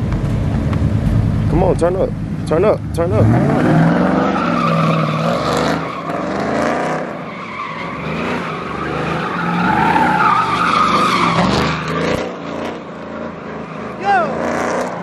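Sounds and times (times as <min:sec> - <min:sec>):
truck engine revving hard: 0:01.8 - 0:15.0
tires squealing on asphalt: 0:03.0 - 0:15.0.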